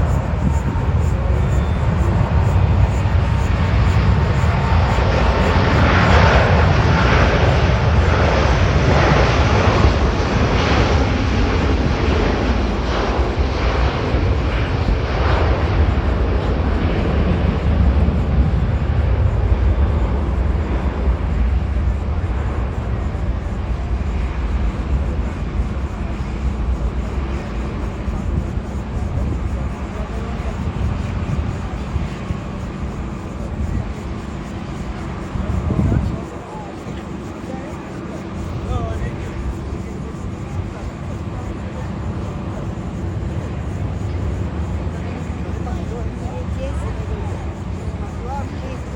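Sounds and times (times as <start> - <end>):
jet engines at takeoff thrust: 0.0 - 48.9.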